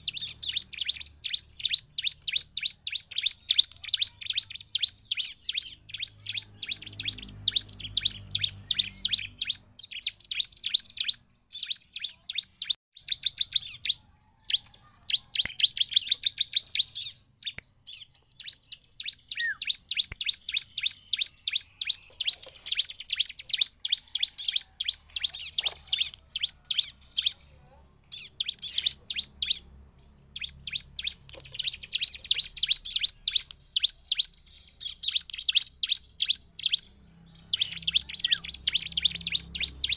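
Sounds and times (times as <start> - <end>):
bird chirping high notes: 0.0 - 39.9.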